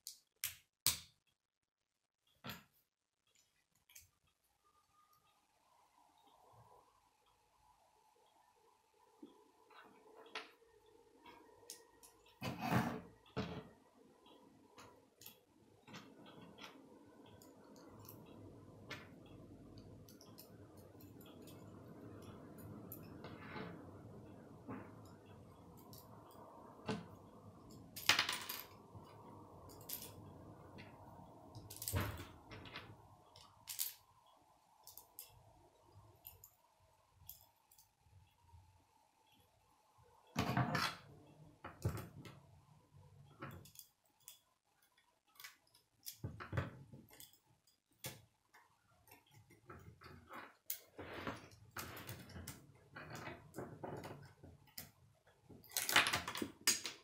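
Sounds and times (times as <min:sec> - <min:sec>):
faint steady hum: 0:02.3 - 0:57.0.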